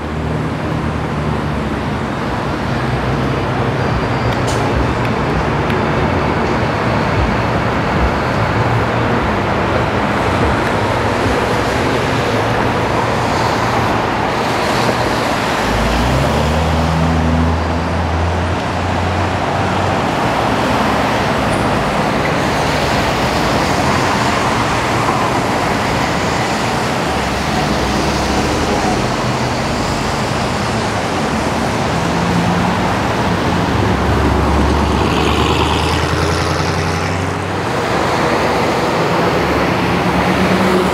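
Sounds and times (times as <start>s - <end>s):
heavy vehicle engine hum passing: 0.0s - 40.9s
traffic on wet pavement: 0.0s - 40.9s.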